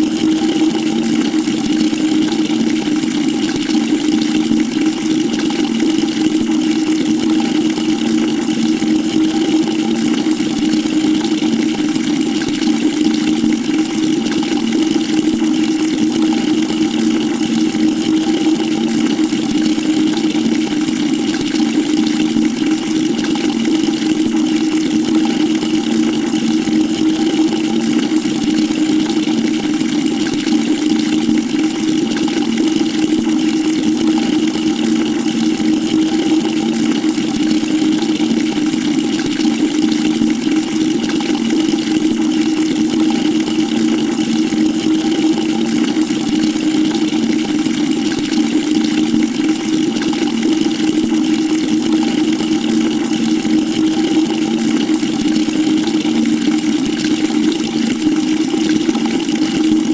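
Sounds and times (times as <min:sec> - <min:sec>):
water pouring into a bucket: 0:00.0 - 0:59.9.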